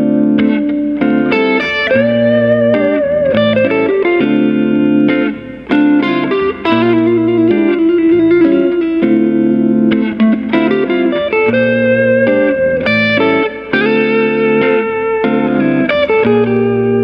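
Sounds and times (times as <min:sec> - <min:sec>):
electric guitar playing: 0:00.0 - 0:17.0.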